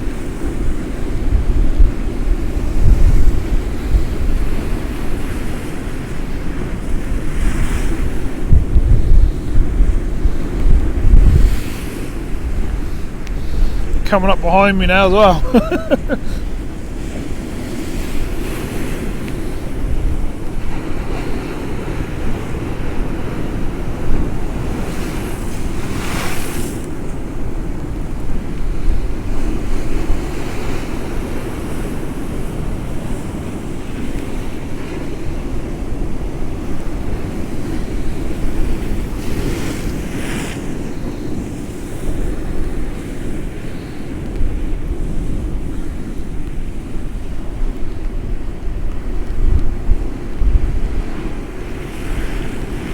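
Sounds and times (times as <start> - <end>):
wind buffeting microphone: 0.0 - 26.4, 35.4 - 52.9
waves surging against wall: 0.0 - 52.9.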